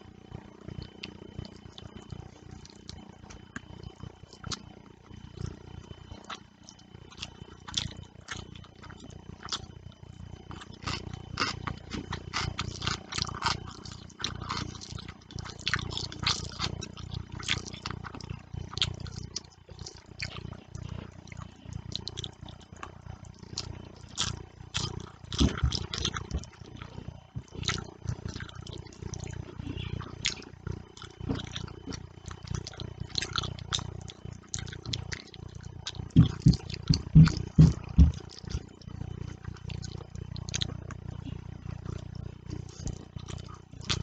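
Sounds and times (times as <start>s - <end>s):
chewing with lip smacks: 0.7s - 44.0s.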